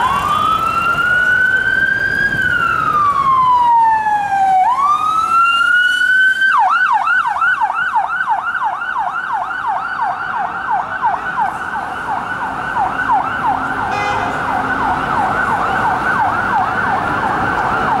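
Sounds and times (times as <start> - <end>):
police siren wailing and yelping: 0.0 - 18.0.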